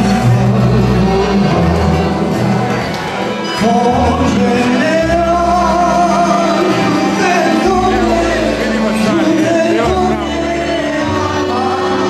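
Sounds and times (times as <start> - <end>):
band with accordions playing: 0.0 - 12.0
man singing: 0.0 - 12.0.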